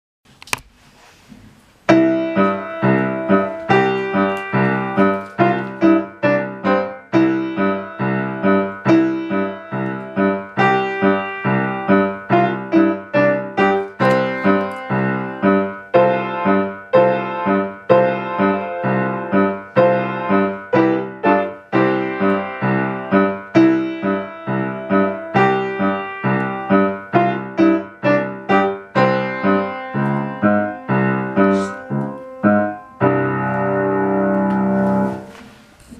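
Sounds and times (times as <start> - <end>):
lively piano piece: 1.8 - 35.9.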